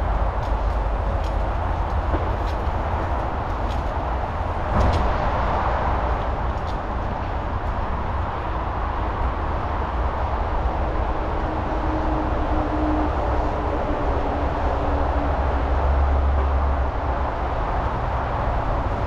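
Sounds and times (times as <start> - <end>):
wind rushing on microphone: 0.0 - 19.0.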